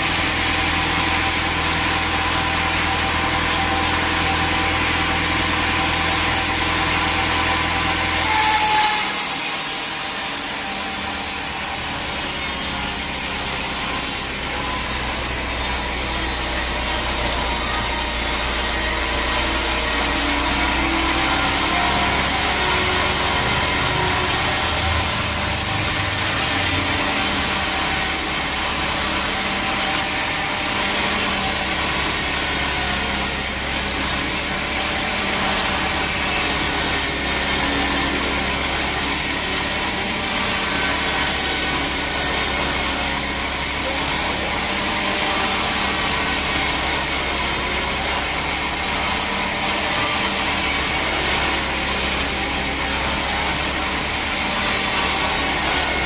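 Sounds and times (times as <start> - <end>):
saw cutting through log: 0.0 - 56.0
sawmill machine hum: 0.0 - 56.0.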